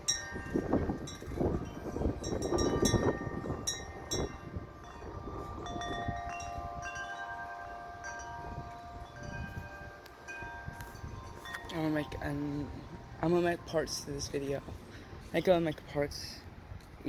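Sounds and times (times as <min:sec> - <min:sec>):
wind chime ringing: 0:00.0 - 0:16.4
wind gusts on microphone: 0:00.0 - 0:17.0.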